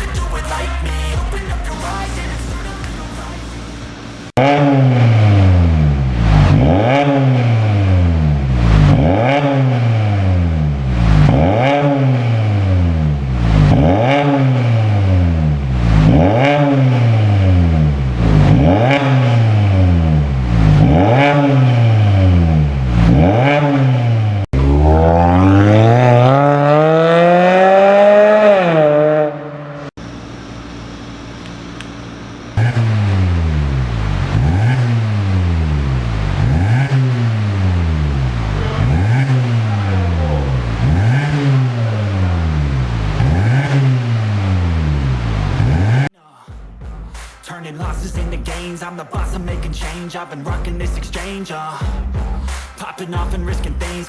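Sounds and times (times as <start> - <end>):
car engine revving: 0.0 - 46.1.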